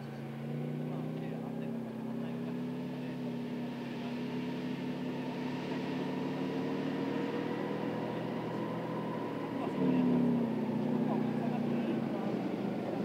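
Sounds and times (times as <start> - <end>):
tank diesel engine running: 0.0 - 13.0.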